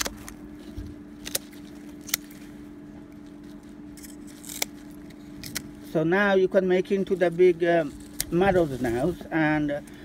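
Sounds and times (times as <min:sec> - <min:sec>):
shears snipping stalks: 0:00.0 - 0:05.9, 0:06.8 - 0:10.0
low hum: 0:00.0 - 0:10.0.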